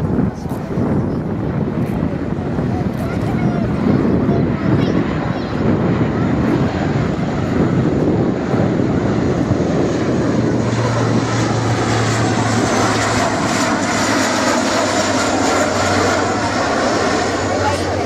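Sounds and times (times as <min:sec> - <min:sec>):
aircraft engine in flight: 0:00.0 - 0:18.0.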